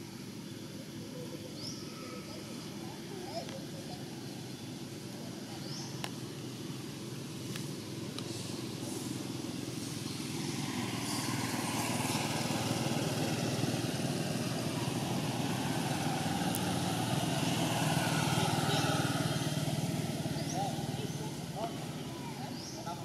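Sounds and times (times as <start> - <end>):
motor engine running: 1.6 - 23.0.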